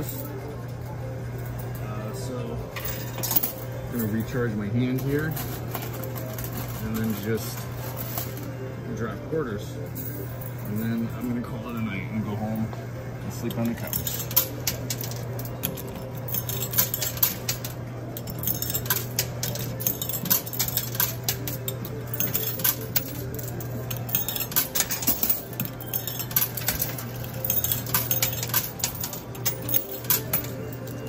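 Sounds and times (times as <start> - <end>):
coins clattering and clinking: 0.0 - 8.6, 9.9 - 11.9, 13.4 - 31.0.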